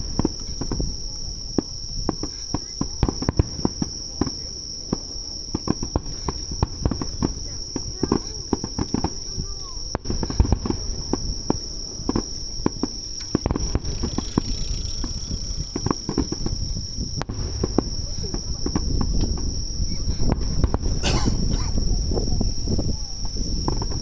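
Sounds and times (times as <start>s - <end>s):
night insects trilling: 0.0s - 24.0s.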